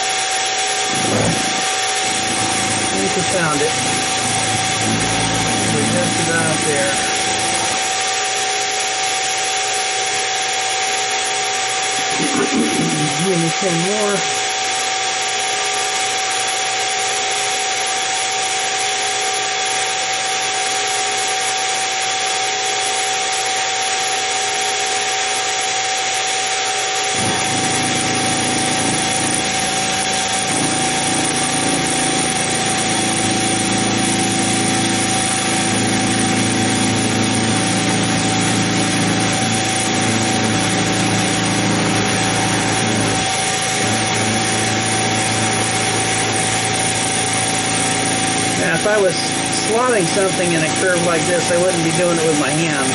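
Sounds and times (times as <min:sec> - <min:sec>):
end mill grinding metal: 0:00.0 - 0:52.9
mill spindle motor whine: 0:00.0 - 0:52.9.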